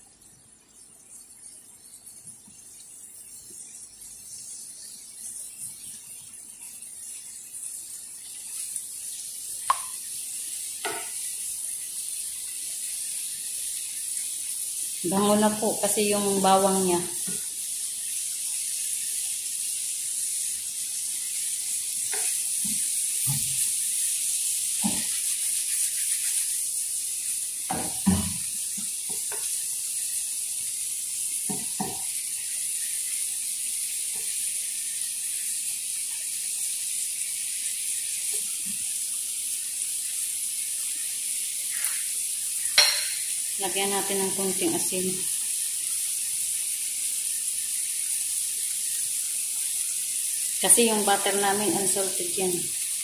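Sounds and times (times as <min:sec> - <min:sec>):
food sizzling in a frying pan: 0:00.0 - 0:53.0.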